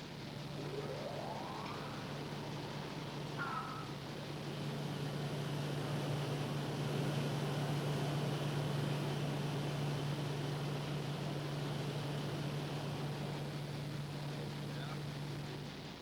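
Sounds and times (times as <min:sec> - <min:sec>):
engine room machinery hum: 0:00.0 - 0:16.0.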